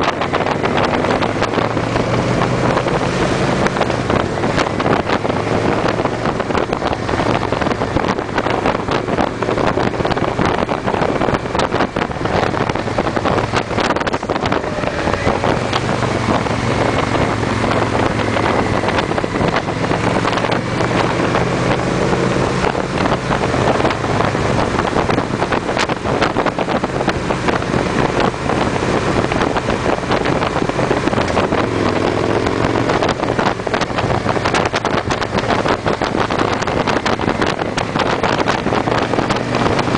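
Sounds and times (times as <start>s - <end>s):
motorcycle engines droning: 0.0s - 39.9s
wind buffeting microphone: 0.0s - 39.9s.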